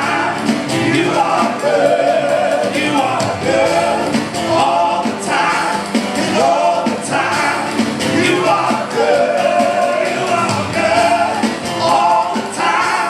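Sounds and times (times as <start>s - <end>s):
group singing with band: 0.0s - 13.0s.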